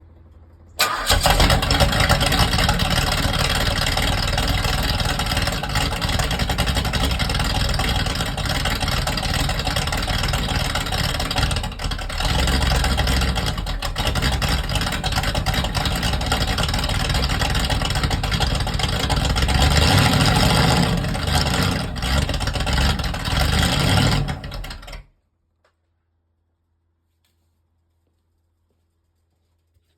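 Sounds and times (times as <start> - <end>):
car engine with lumpy idle: 0.8 - 25.0.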